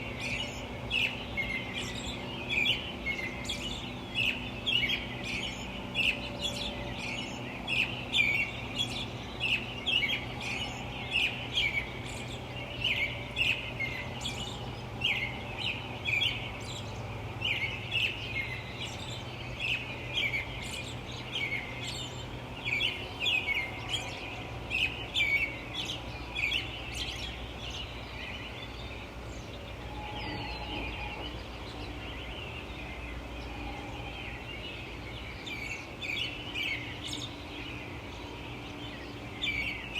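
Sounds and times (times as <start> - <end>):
distant traffic rumble: 0.0 - 39.9
small birds chirping: 0.0 - 39.9.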